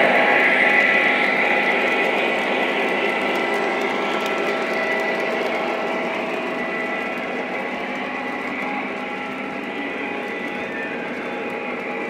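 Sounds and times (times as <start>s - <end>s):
model train motors whirring: 0.0s - 12.0s
wheels rolling on track: 0.0s - 12.0s
whining tones: 0.0s - 12.0s.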